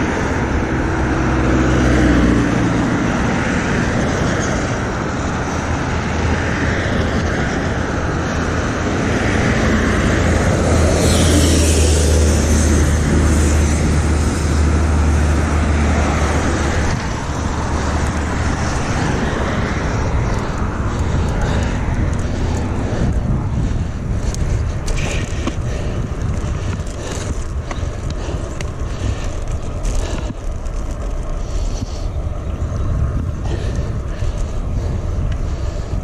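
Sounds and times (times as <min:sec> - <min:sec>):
wind noise on microphone: 0:00.0 - 0:36.0.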